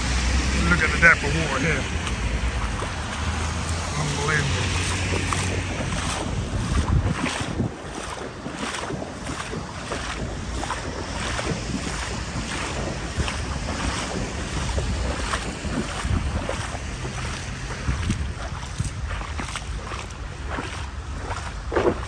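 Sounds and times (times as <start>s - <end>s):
wind buffeting microphone: 0.0s - 22.0s
faint footsteps: 0.8s - 22.0s.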